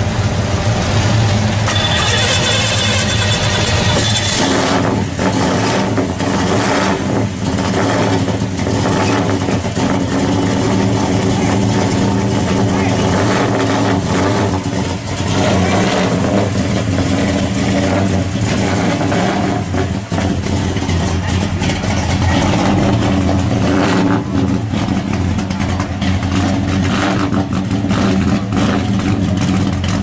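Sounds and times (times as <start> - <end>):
car engine exhaust rumble: 0.0 - 30.0.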